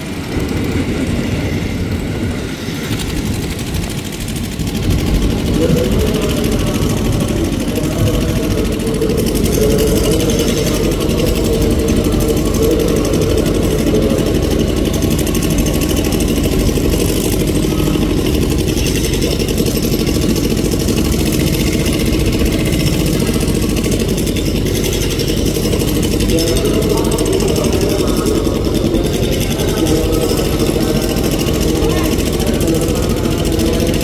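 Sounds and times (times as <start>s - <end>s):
electric train rumbling over tracks: 0.0s - 34.0s.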